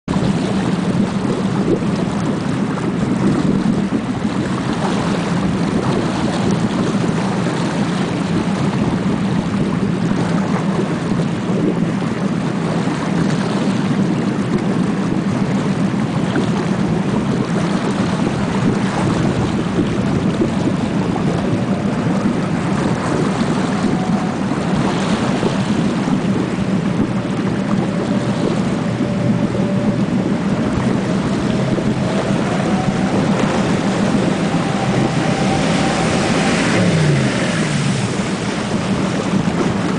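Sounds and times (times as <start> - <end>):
boat engine droning: 0.0 - 39.9
faint higher boat engine: 0.0 - 39.9
rushing river water: 0.0 - 39.9
wind buffeting the microphone: 0.0 - 39.9.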